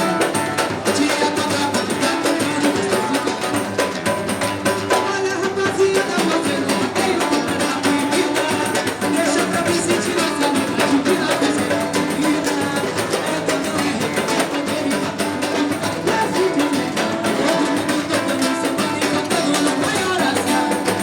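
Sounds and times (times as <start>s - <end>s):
person singing: 0.0s - 4.0s, 4.8s - 21.0s
fast samba percussion: 0.0s - 21.0s.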